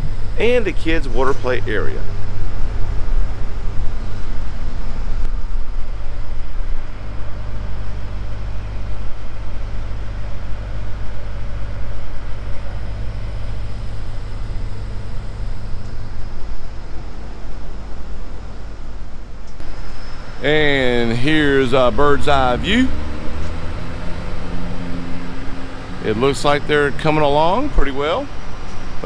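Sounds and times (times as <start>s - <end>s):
low engine hum: 0.0s - 29.0s
road traffic noise: 0.0s - 29.0s.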